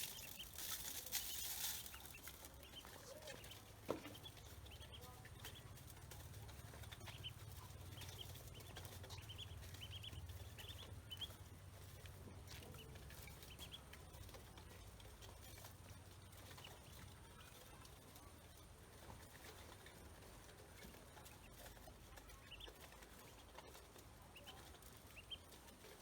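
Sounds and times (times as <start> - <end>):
ducklings peeping: 0.0 - 26.0.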